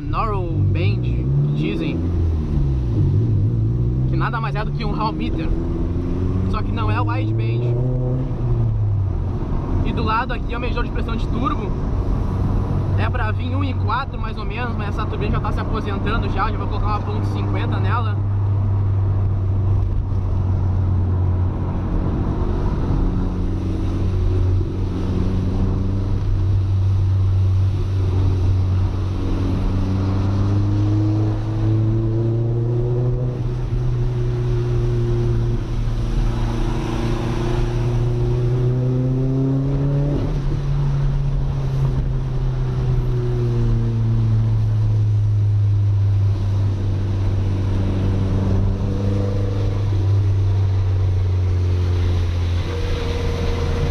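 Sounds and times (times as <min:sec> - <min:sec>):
car engine from inside cabin: 0:10.8 - 0:53.9.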